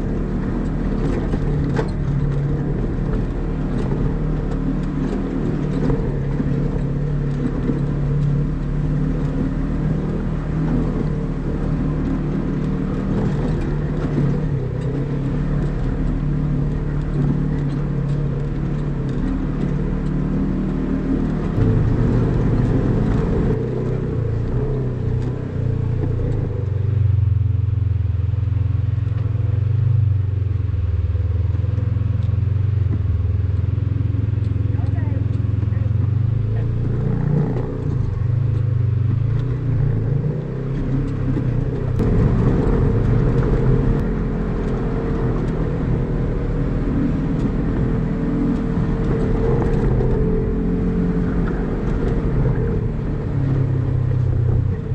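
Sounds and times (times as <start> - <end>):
off-road vehicle engine running: 0.0 - 54.9.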